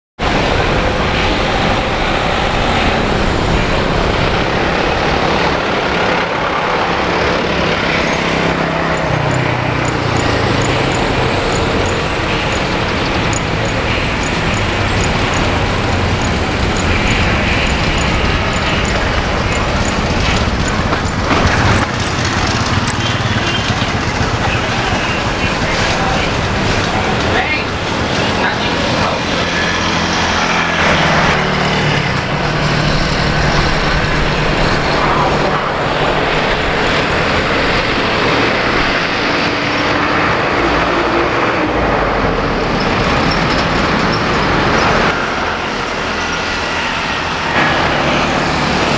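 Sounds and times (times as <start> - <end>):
road traffic rumble: 0.2 - 48.9.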